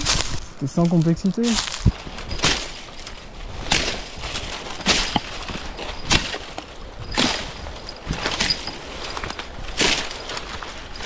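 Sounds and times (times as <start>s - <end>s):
footsteps on rough ground: 0.0s - 11.0s.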